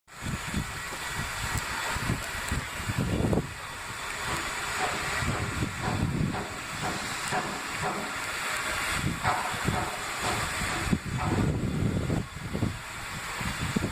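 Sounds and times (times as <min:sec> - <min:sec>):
steam locomotive hissing steam: 0:00.1 - 0:13.9.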